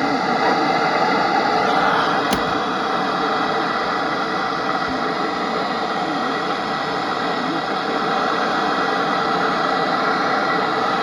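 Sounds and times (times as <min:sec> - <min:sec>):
radio static hiss: 0:00.5 - 0:09.6.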